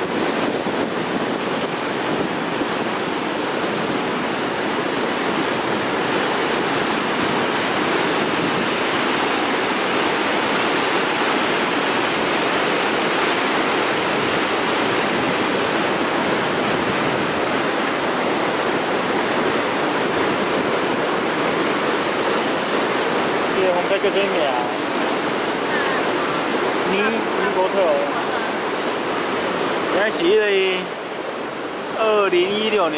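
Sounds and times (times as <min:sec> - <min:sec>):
water gushing loudly: 0:03.2 - 0:32.9.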